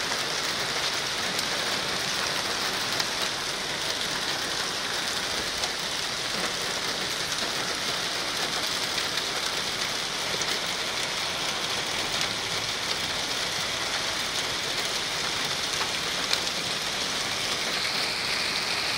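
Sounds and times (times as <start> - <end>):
heavy rain on hard surfaces: 0.0 - 18.9.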